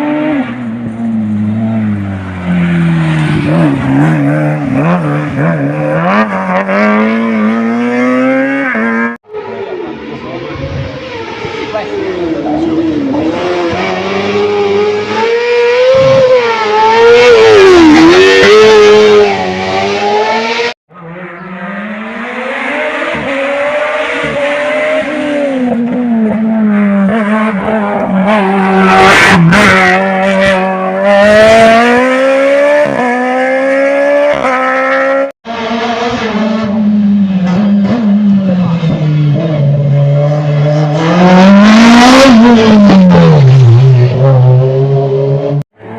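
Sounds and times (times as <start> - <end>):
race car engine at hard throttle: 0.0 - 45.9.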